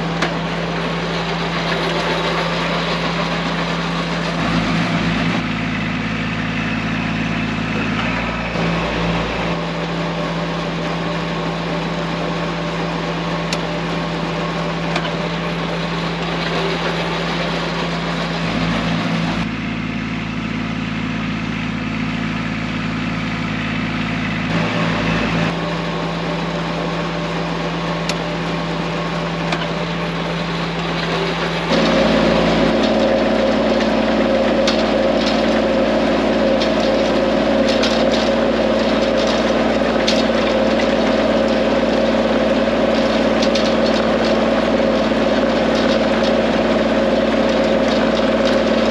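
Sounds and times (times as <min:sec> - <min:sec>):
tractor diesel engine: 0:00.0 - 0:48.9.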